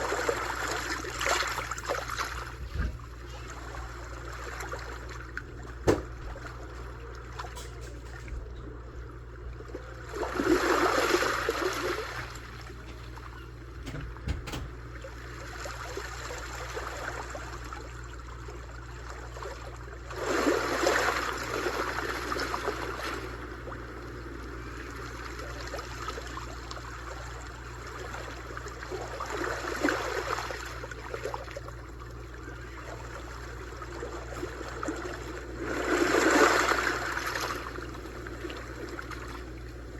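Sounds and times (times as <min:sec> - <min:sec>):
sea waves breaking on shore: 0:00.0 - 0:08.2, 0:09.7 - 0:39.9.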